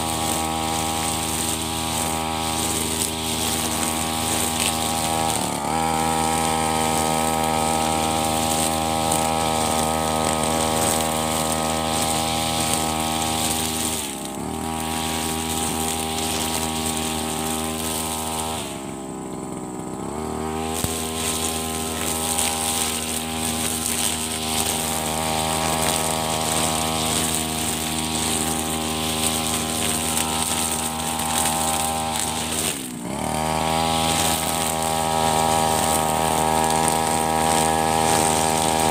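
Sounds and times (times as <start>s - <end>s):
brush cutter engine revving: 0.0s - 38.9s
trimmer line cutting grass: 0.0s - 38.9s.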